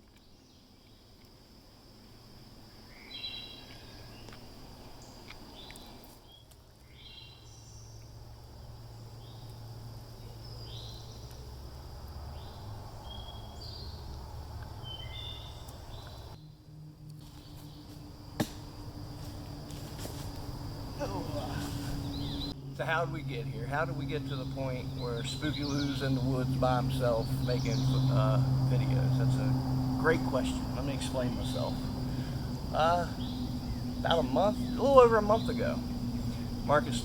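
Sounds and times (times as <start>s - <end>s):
high insect drone: 0.0s - 37.0s
bird chirping: 2.8s - 11.5s, 12.3s - 18.1s, 20.9s - 37.0s
low wind rumble: 6.9s - 37.0s.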